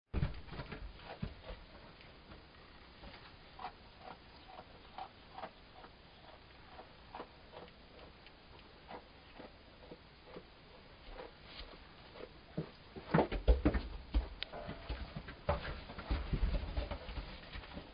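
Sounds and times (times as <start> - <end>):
small hooves ticking on wood: 0.3 - 17.9.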